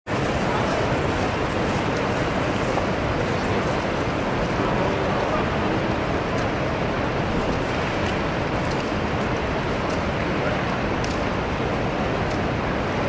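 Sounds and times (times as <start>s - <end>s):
traffic: 0.1s - 13.0s.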